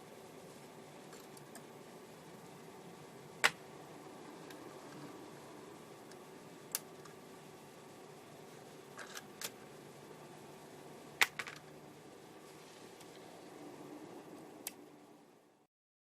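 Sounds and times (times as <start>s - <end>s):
faint background hum: 0.0s - 15.7s.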